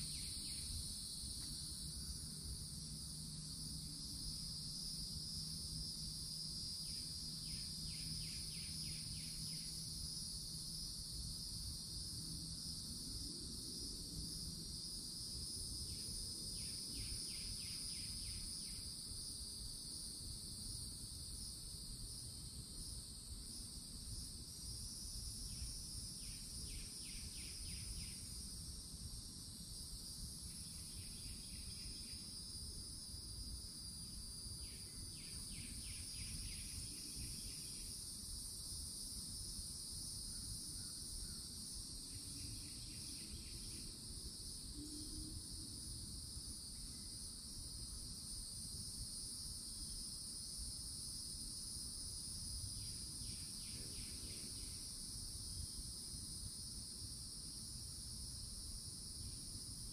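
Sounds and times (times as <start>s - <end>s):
cicadas droning: 0.0s - 59.9s.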